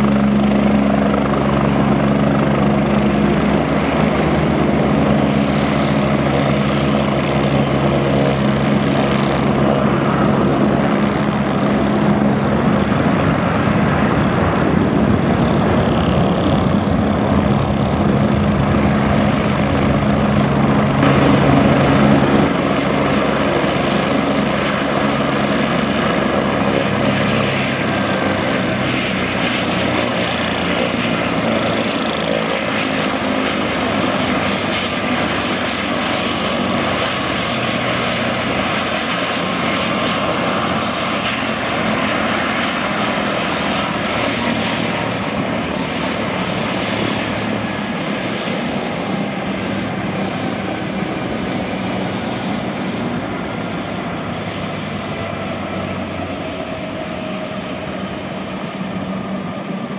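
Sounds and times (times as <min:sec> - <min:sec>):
helicopter turbine whine and rotor: 0:00.0 - 0:59.9.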